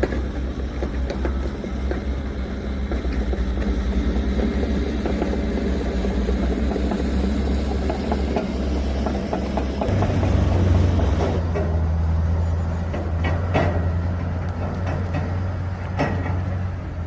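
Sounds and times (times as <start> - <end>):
rattles and knocks: 0.0 - 16.8
truck engine rumbling: 0.0 - 17.0.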